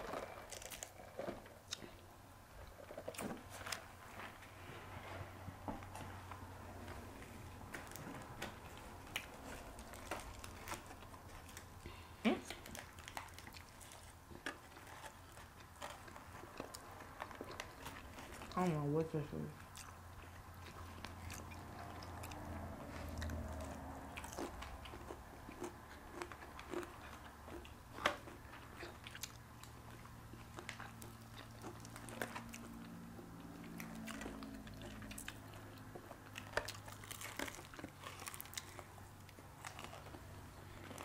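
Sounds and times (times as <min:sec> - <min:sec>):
small crunches and clicks: 0:00.0 - 0:02.0, 0:07.7 - 0:11.8, 0:12.4 - 0:18.6, 0:19.6 - 0:41.0
people chewing crispy chicken: 0:00.0 - 0:04.8, 0:05.8 - 0:41.0
faint low hum: 0:00.0 - 0:41.0.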